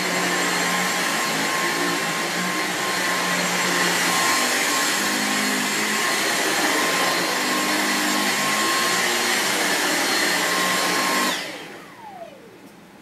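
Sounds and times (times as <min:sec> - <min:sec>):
vacuum cleaner running on carpet: 0:00.0 - 0:12.6.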